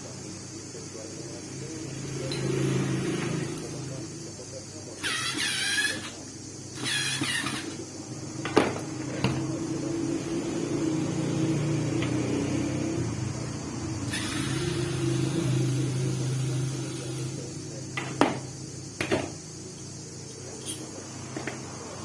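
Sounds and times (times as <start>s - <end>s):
electric motor hum: 1.6s - 22.0s.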